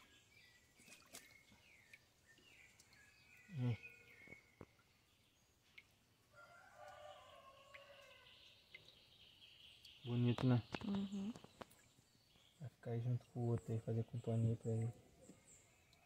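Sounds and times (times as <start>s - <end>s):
bird calls and chirps: 0.0s - 5.9s, 6.8s - 16.0s.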